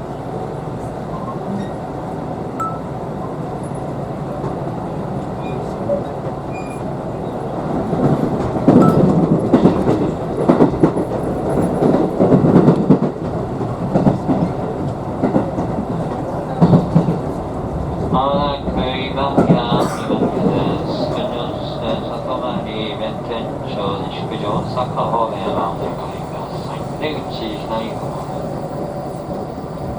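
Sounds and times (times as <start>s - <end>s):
train rumble: 0.0s - 29.9s.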